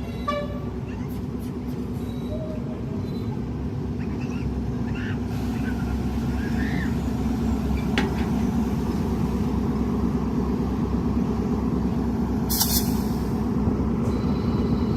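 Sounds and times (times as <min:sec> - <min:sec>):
road noise: 0:00.0 - 0:14.9
vehicle engine rumble: 0:00.0 - 0:14.9.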